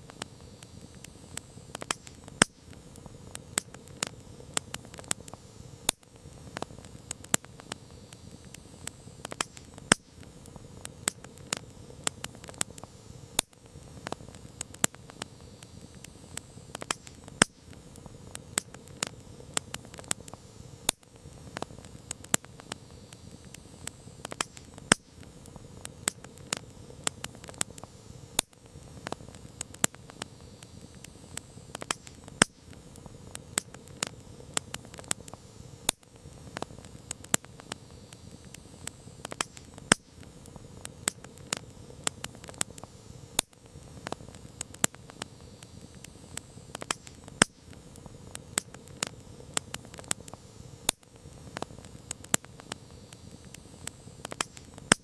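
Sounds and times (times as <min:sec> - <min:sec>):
campfire crackling: 0:00.0 - 0:55.0
hiss of burning fire: 0:00.0 - 0:55.0.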